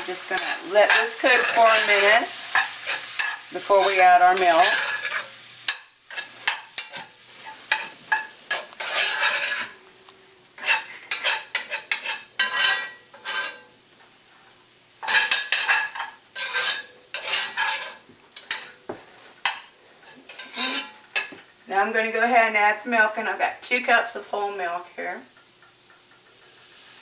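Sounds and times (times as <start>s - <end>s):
utensil scraping a skillet: 0.0s - 9.9s, 10.6s - 13.8s, 14.5s - 21.6s, 25.4s - 27.0s
light sizzle: 0.0s - 27.0s.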